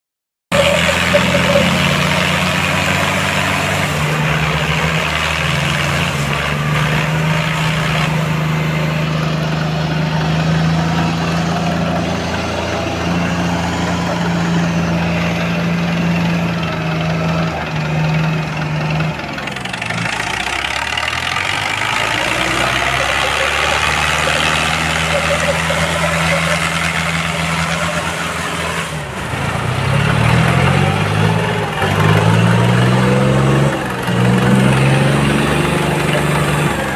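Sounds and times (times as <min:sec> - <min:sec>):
diesel tractor engines under load: 0:00.5 - 0:36.9.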